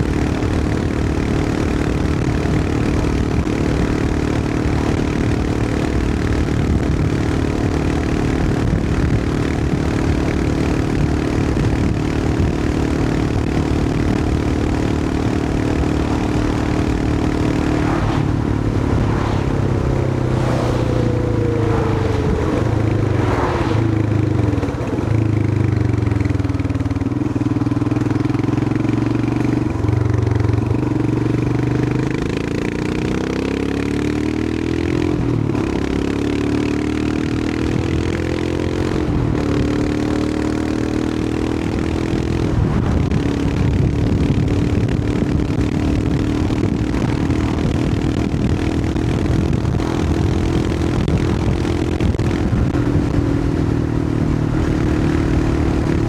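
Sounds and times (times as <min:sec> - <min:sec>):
motorcycle engine running: 0:00.0 - 0:56.0
road and wind rush: 0:00.0 - 0:56.0.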